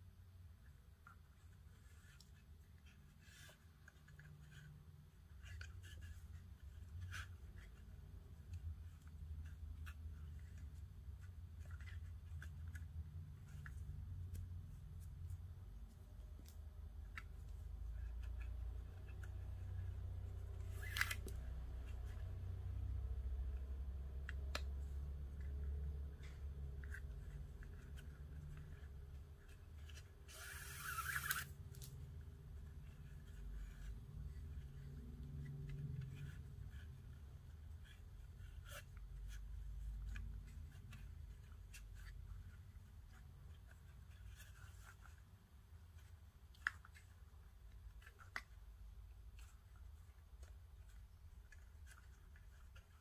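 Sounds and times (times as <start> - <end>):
low steady hum: 0.0 - 53.0
cord rubbing and sliding: 0.7 - 53.0.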